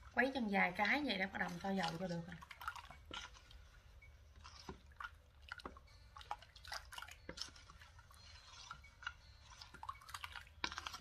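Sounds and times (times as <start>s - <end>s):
spoon stirring batter: 0.0s - 11.0s.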